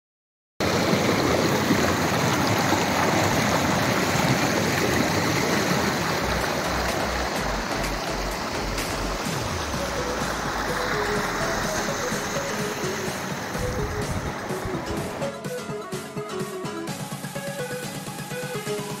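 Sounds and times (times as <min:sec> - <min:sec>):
water rushing over rocks: 0:00.6 - 0:19.0.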